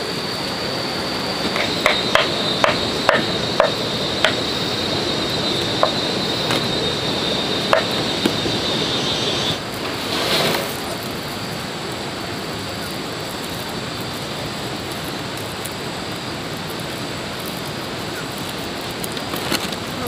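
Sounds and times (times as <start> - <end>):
high steady whine: 0.0 - 20.0.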